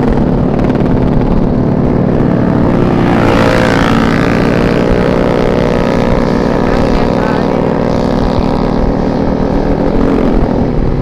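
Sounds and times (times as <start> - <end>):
higher engine note rising: 0.0 - 11.0
scooter engine running: 0.0 - 11.0
wind rumbling on microphone: 0.0 - 11.0.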